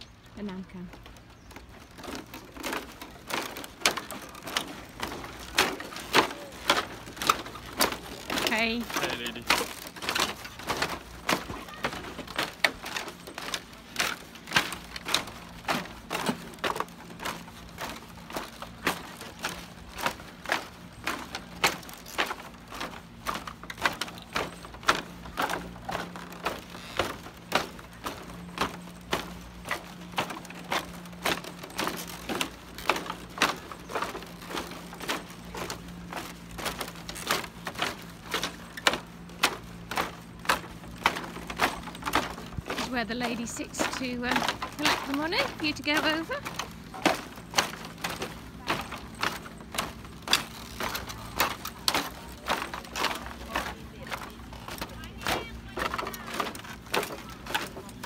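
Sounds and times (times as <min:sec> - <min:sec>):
footsteps on bamboo bridge: 0:00.0 - 0:58.0.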